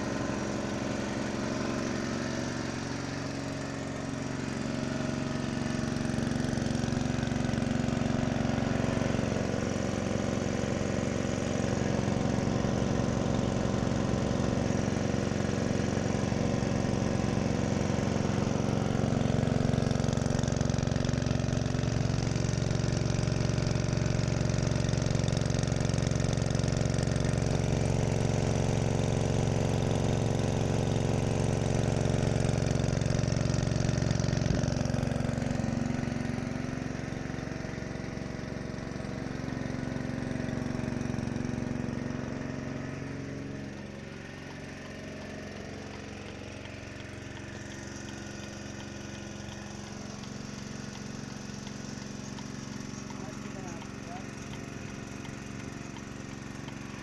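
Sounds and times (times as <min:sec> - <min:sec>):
petrol engine running: 0:00.0 - 0:57.0.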